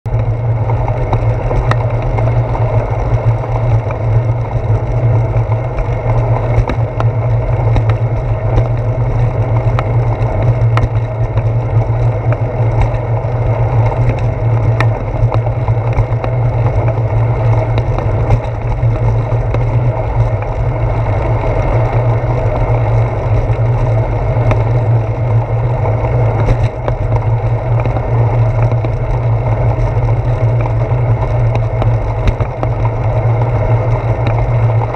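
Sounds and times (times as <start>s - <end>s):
bicycle tyre and wind noise: 0.0s - 34.9s
small clicks and rattles: 0.1s - 34.9s.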